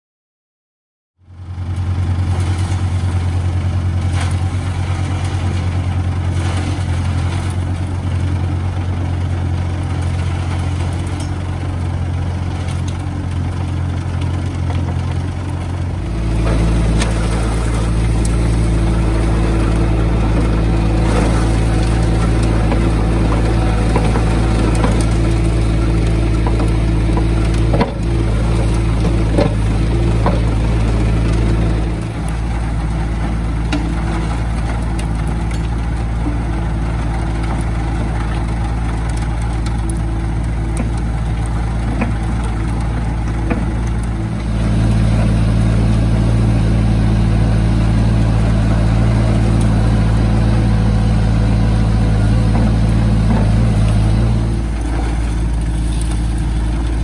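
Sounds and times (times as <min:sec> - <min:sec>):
loader engine running: 0:01.2 - 0:57.0
vibrating screen humming: 0:01.4 - 0:57.0.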